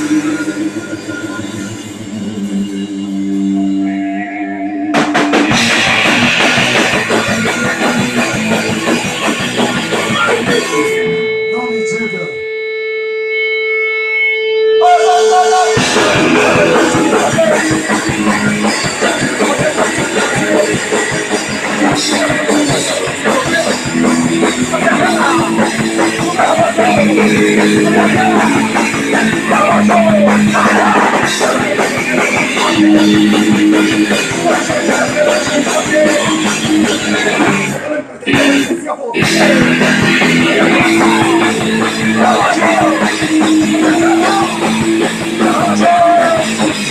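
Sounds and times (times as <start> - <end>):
punk rock band playing loud: 0.0 - 46.9.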